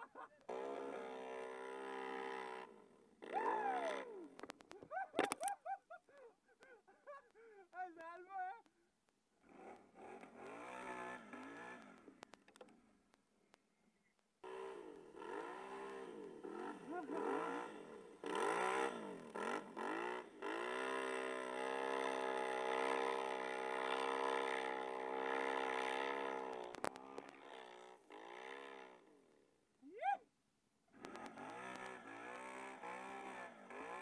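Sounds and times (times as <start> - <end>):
atv engine revving: 0.0 - 5.6, 8.6 - 13.6, 14.4 - 29.6, 30.8 - 34.0.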